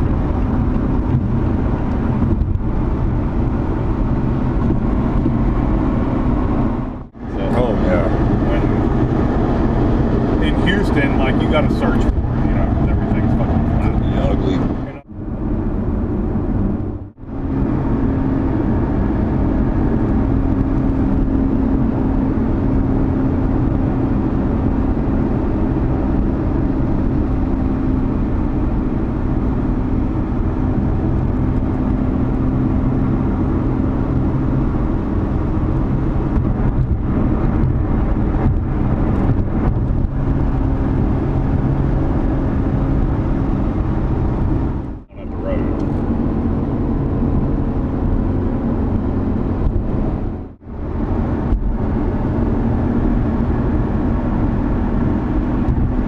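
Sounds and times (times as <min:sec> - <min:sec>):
car engine hum at cruise: 0:00.0 - 0:56.0
road noise: 0:00.0 - 0:56.0.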